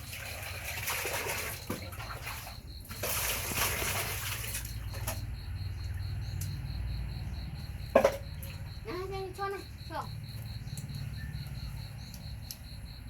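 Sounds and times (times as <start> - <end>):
water splashing and sloshing: 0.0 - 12.7.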